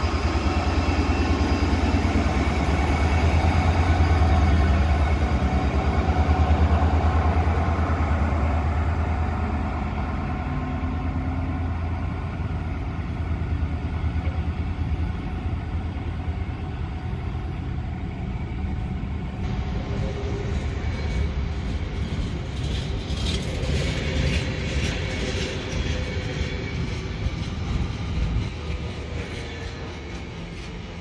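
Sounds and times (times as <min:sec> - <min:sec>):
diesel train engine throbbing: 0:00.0 - 0:31.0.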